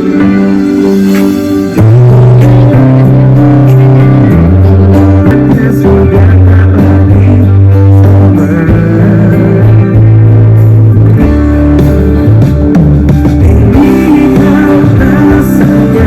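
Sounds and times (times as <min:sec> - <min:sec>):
band music with guitar and bass: 0:00.0 - 0:16.0.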